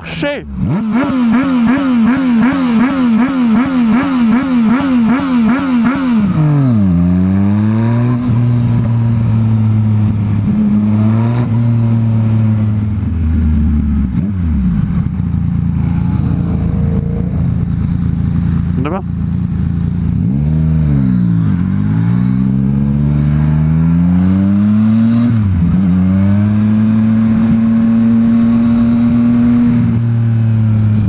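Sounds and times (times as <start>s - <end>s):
motorcycle engine revving: 0.4s - 31.0s.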